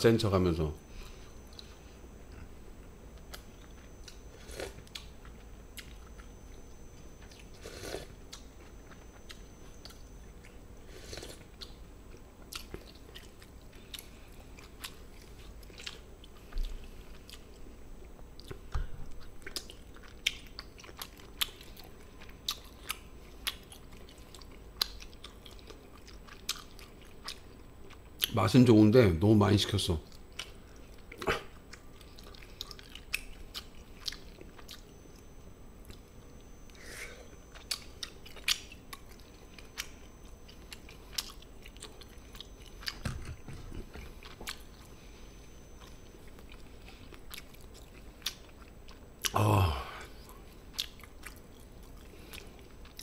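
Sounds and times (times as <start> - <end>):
person chewing and crunching: 3.2 - 28.4, 30.1 - 53.0.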